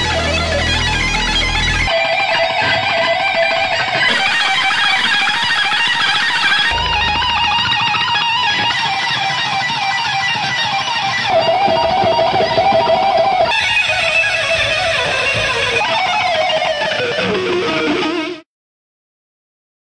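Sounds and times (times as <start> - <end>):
electric guitar lead: 0.0 - 18.4.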